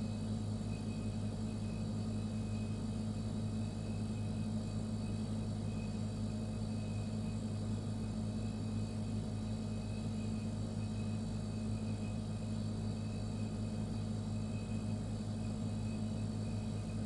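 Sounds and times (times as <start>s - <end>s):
refrigerator compressor hum: 0.0s - 17.0s.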